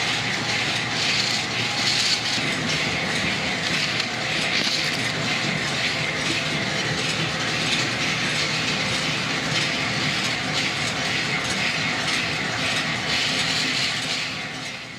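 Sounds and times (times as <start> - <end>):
factory machinery clattering: 0.0 - 14.9.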